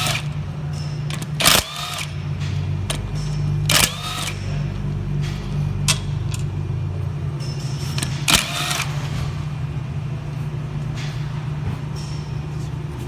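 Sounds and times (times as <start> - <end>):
low mechanical hum: 0.0 - 13.0
metallic clank ringing: 0.0 - 13.0.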